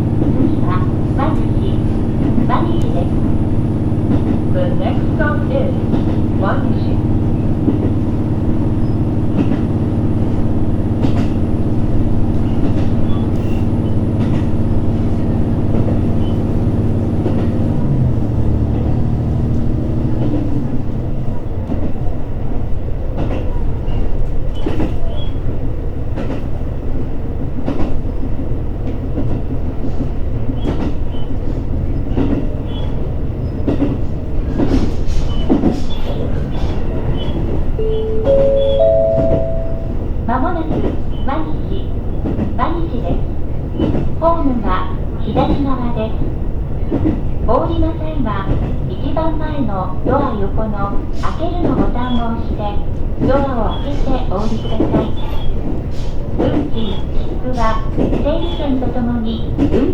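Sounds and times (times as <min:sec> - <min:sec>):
rail joint clicks: 0:00.0 - 0:59.9
train engine hum: 0:00.0 - 0:59.9
wheels rumbling on rails: 0:00.0 - 0:59.9.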